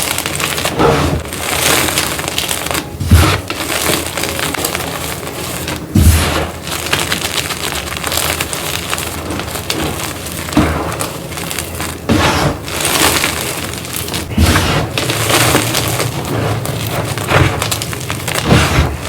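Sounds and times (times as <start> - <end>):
chalk crumbling: 0.0 - 19.0.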